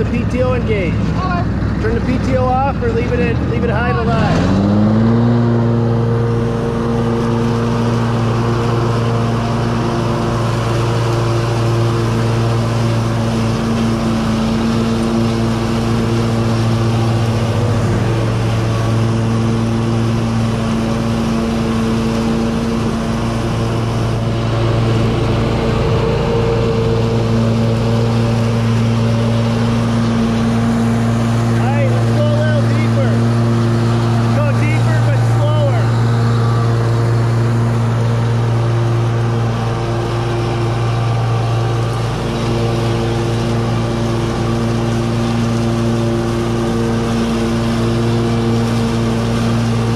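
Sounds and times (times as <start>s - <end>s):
riding mower engine mowing grass: 0.0s - 49.9s.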